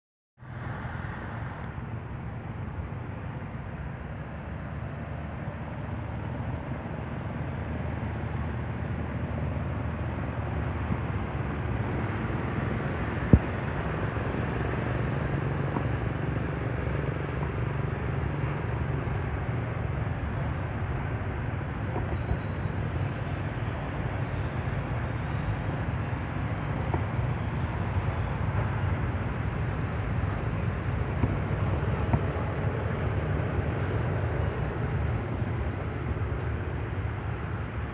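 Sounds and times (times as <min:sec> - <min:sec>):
low outdoor rumble: 0:00.4 - 0:37.9.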